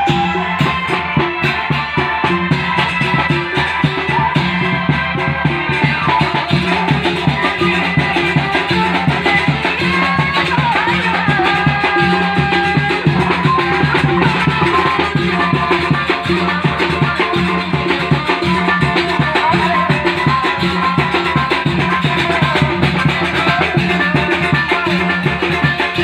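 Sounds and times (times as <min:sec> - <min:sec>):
drums: 0:00.0 - 0:26.0
live band music: 0:00.0 - 0:26.0.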